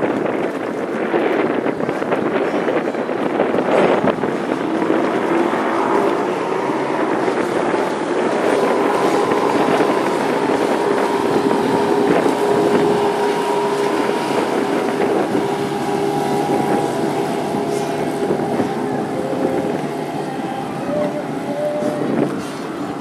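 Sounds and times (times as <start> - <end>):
outboard motor running: 0.0 - 23.0
wind noise on microphone: 0.0 - 23.0.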